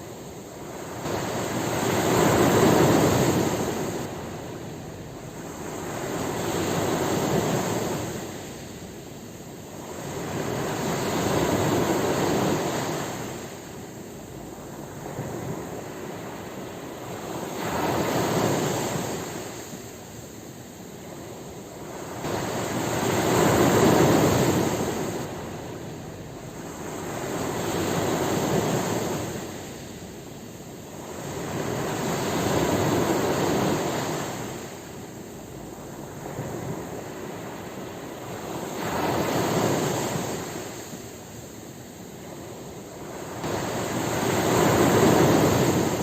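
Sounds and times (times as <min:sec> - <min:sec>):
ocean waves washing onto shore: 0:00.0 - 0:46.0.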